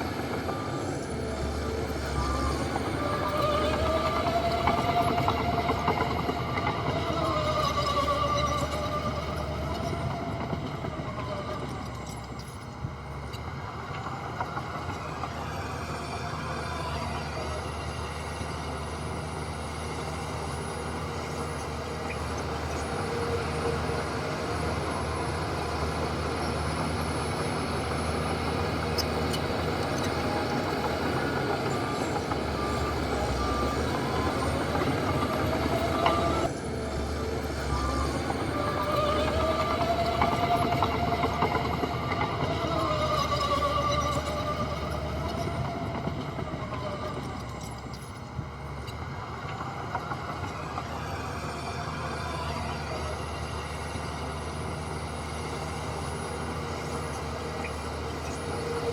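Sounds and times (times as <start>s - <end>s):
reversing alarm beeping: 0.0s - 16.4s, 20.0s - 58.9s
heavy machinery diesel engines: 0.0s - 58.9s.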